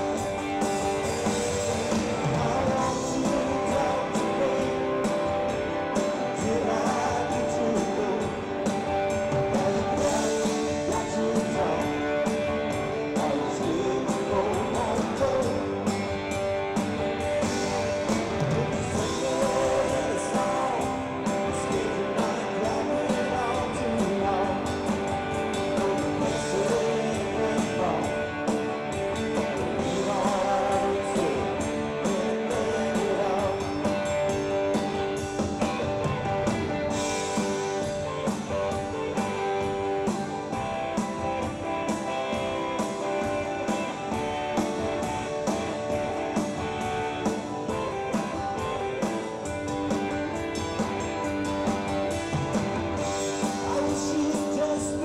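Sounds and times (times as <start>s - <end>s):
live rock band playing: 0.0s - 55.0s
wavering lead guitar line: 0.0s - 55.0s.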